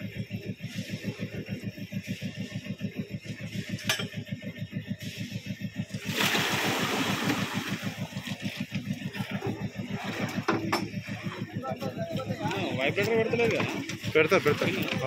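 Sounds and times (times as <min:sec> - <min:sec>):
concrete mixer engine chugging: 0:00.0 - 0:15.0.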